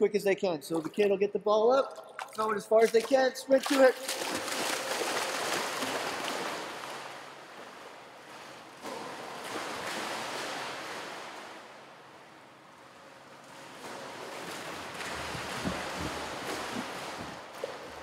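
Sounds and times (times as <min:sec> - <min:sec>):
swimmer splashing in pool: 0:01.9 - 0:12.3, 0:13.4 - 0:18.0.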